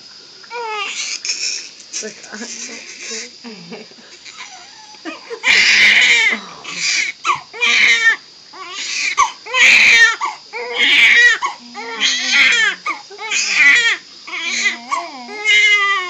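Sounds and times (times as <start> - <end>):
newborn baby crying: 0.5 - 1.7, 4.2 - 16.0.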